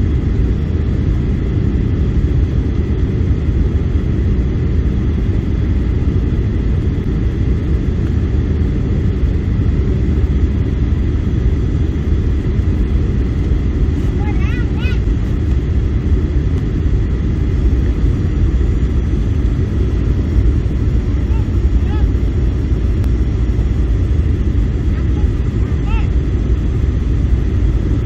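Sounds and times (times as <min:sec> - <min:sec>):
airplane cabin engine rumble: 0:00.0 - 0:28.0
rushing airflow: 0:00.0 - 0:28.0.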